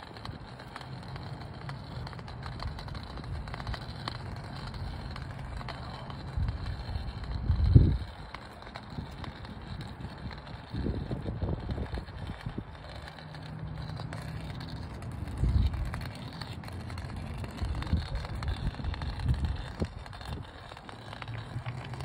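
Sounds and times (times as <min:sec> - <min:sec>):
cane tip tapping on brick paving: 0:00.0 - 0:22.0
wind rumbling on microphone: 0:00.0 - 0:22.0.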